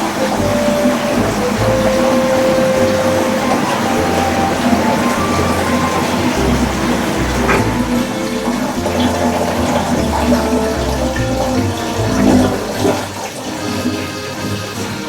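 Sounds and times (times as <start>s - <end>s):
water churning in washing machine: 0.0s - 15.0s.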